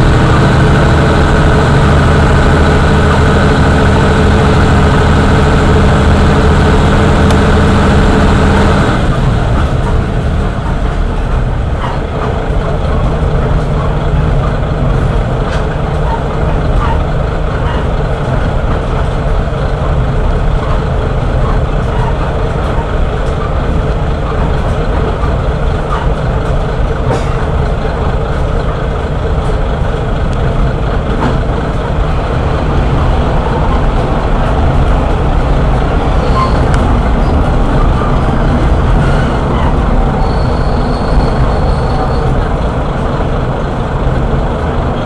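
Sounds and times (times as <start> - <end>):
diesel engine running: 0.0 - 45.0
train wheels rumbling on rails: 0.0 - 45.0.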